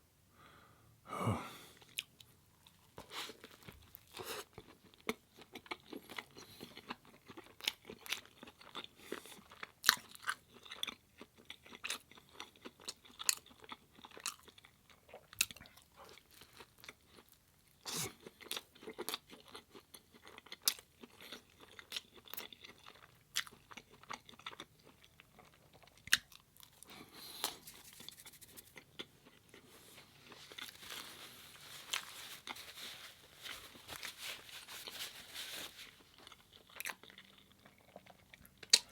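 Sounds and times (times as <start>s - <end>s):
chewing and crunching food: 1.8s - 38.9s.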